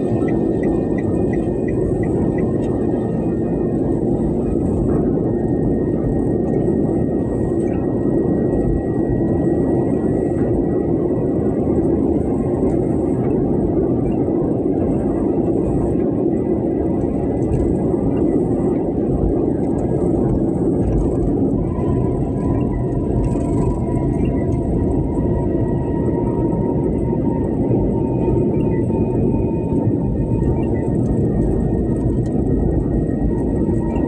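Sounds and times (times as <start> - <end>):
strong wind: 0.0 - 34.0.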